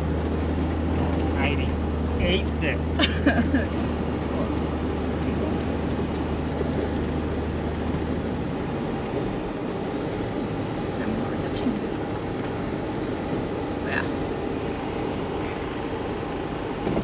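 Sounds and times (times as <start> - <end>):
engine drone: 0.0 - 17.0
tyre and road rumble: 0.0 - 17.0.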